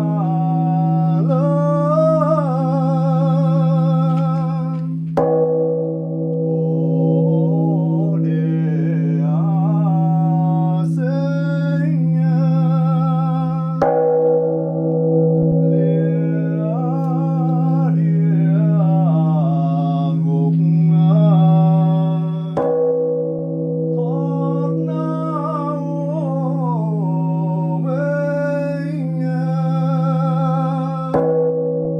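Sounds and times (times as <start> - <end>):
man chanting: 0.0 - 5.5, 6.2 - 22.9, 23.8 - 31.9
large temple bell ringing: 0.0 - 31.9.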